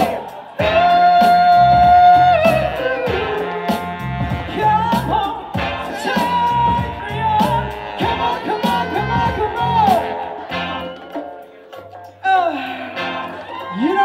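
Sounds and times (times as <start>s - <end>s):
bass and drum groove: 0.0s - 12.4s.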